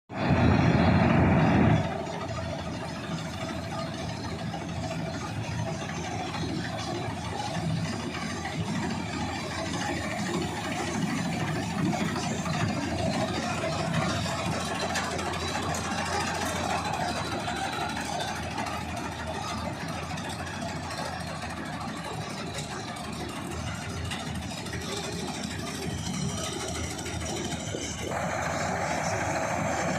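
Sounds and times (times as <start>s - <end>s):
tractor diesel engine running: 0.1s - 29.9s
combine harvester clatter and hiss: 0.2s - 29.9s.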